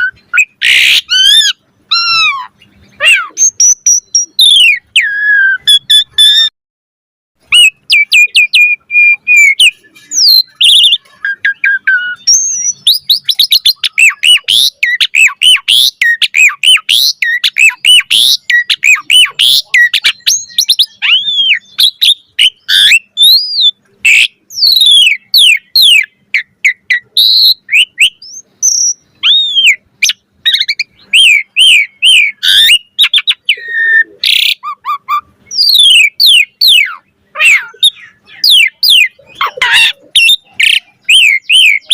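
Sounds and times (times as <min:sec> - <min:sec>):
starling singing: 0:00.0 - 0:06.5, 0:07.4 - 0:41.9.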